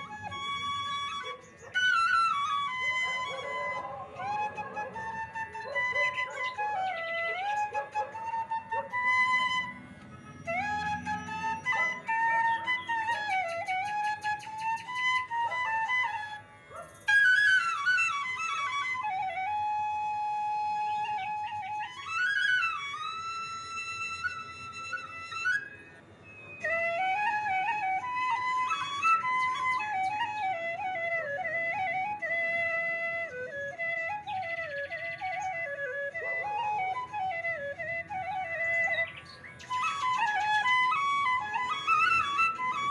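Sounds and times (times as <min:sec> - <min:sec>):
flute melody: 0:00.0 - 0:42.9.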